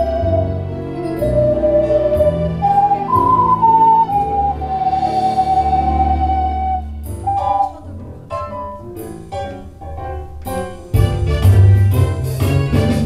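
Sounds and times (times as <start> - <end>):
lower accompaniment: 0.0 - 13.0
ocarina ensemble melody: 0.0 - 13.0.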